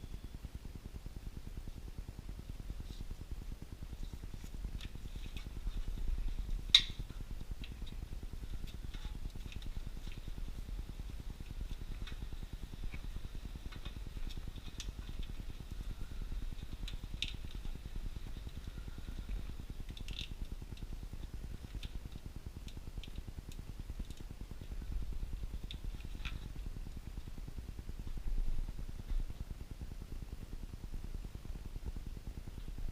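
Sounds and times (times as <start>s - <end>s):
steady low rumble: 0.0s - 32.9s.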